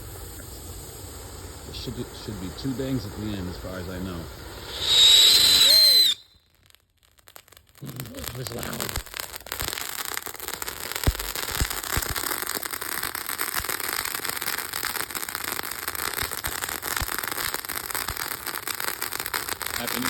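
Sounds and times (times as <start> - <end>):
firework fountain hissing and crackling: 0.0 - 20.0
firework sharp pops: 0.0 - 20.0.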